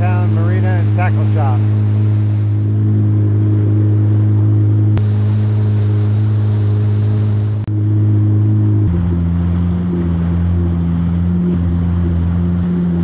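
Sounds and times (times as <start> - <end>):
watercraft engine running: 0.0 - 13.0.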